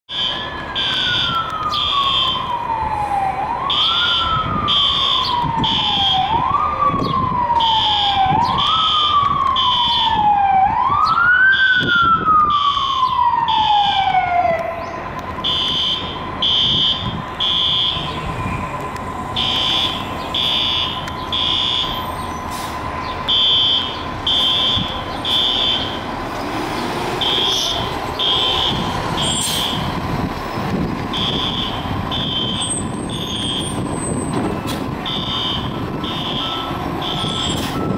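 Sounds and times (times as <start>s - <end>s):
fire engine siren wailing: 0.1s - 37.9s.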